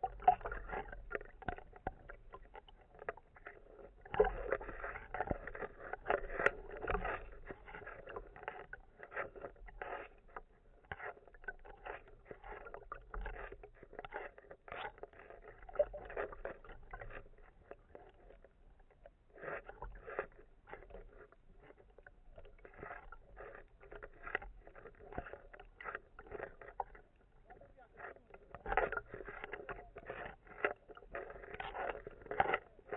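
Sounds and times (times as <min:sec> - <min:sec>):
sea water sloshing and splashing: 0:00.0 - 0:32.9.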